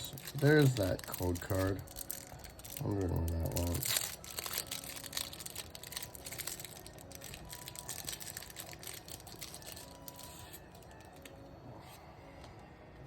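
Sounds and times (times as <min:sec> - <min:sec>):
plastic wrapping crinkling: 0:00.0 - 0:11.3.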